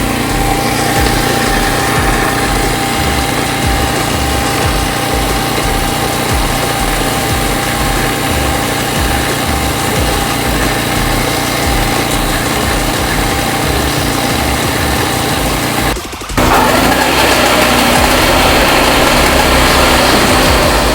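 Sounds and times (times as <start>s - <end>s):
mower engine running: 0.0s - 20.9s.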